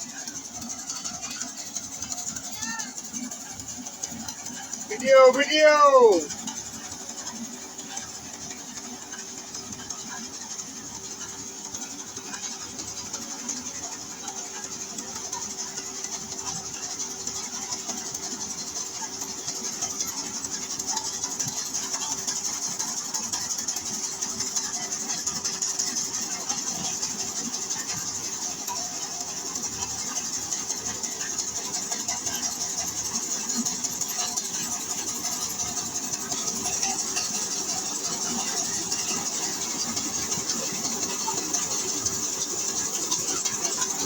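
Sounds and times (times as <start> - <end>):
constant machine hum: 0.0 - 44.0.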